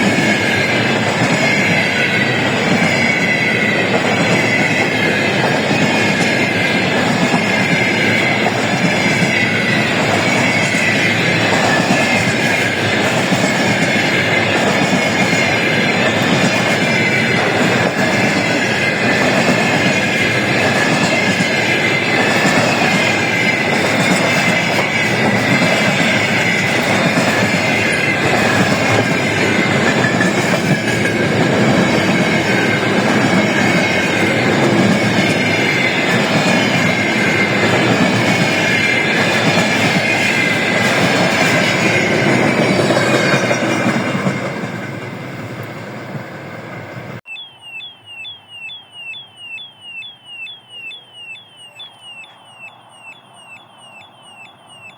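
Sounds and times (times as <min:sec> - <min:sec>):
train wheels clattering on rails: 0:00.0 - 0:47.2
high wheel squeal: 0:00.0 - 0:54.9
rapid electronic beeping alarm: 0:00.2 - 0:43.5, 0:47.3 - 0:54.9.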